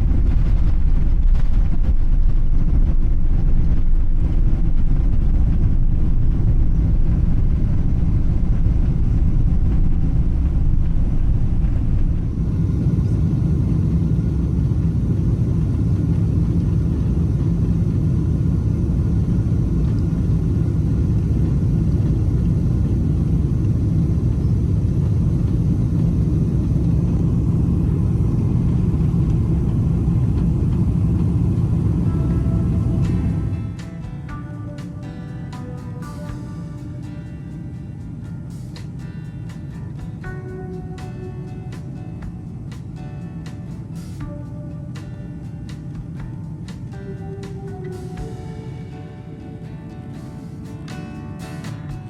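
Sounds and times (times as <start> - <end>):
airplane engines rumbling in cabin: 0.0 - 52.0
rushing air: 0.0 - 52.0.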